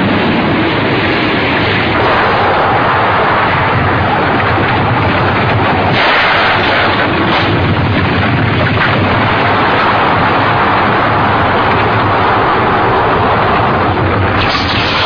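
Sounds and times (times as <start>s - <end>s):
rumbling explosions: 0.0s - 15.0s
sharp blasts: 1.4s - 15.0s.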